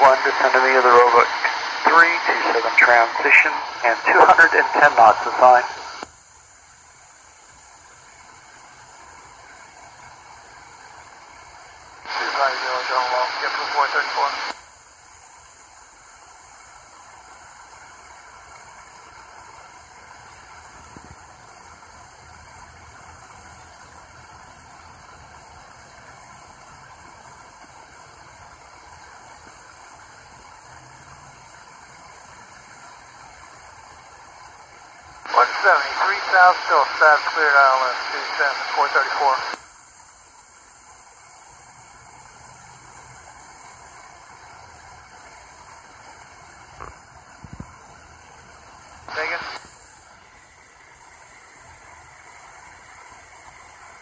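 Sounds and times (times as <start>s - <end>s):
radio static hiss: 0.0s - 6.1s, 7.1s - 22.2s, 31.4s - 54.0s.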